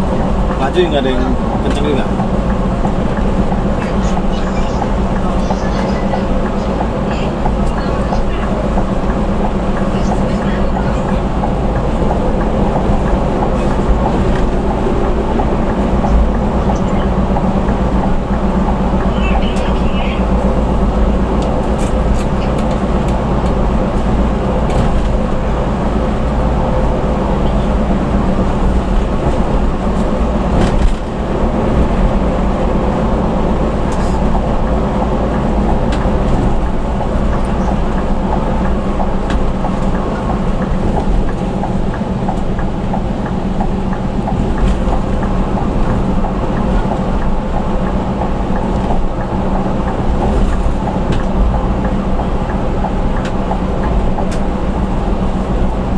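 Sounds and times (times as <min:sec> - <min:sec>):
bus engine drone: 0:00.0 - 0:55.9
road noise: 0:00.0 - 0:55.9.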